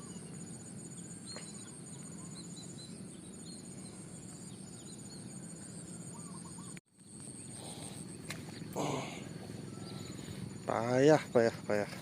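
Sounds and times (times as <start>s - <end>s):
insects trilling: 0.0s - 12.0s
low steady rumble: 0.0s - 12.0s.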